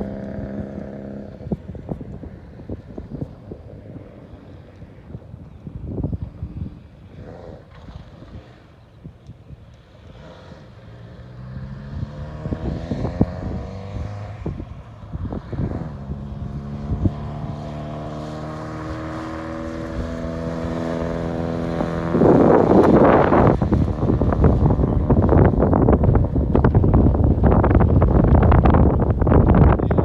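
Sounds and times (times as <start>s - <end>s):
car engine revving: 0.0s - 4.7s, 10.0s - 29.6s.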